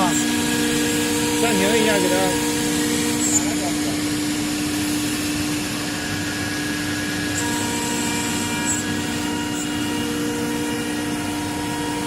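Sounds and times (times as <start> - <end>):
cnc router humming and whining: 0.0 - 12.0.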